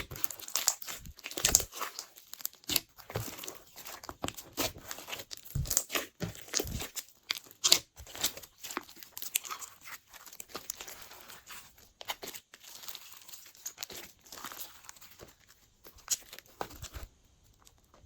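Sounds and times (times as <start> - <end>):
hands squishing slime: 0.0 - 18.0.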